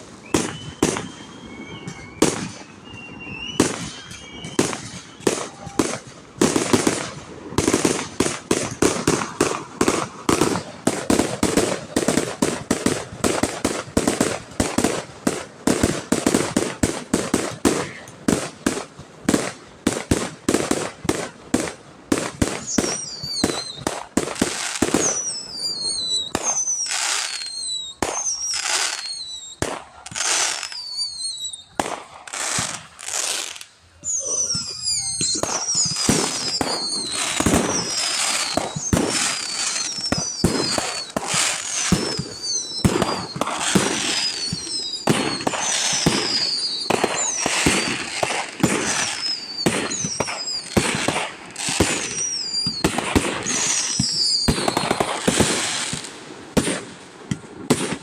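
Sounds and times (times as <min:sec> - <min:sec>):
fireworks bursting: 0:00.0 - 0:58.0
fireworks whistling: 0:00.0 - 0:58.0.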